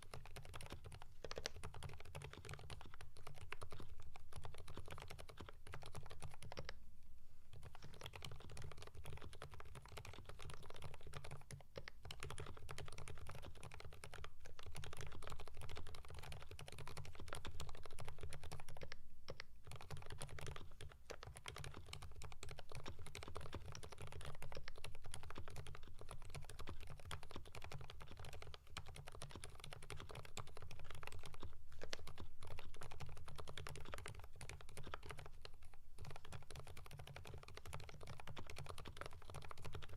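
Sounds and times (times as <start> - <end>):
typing on mechanical keyboard: 0.0 - 6.8, 7.5 - 39.9.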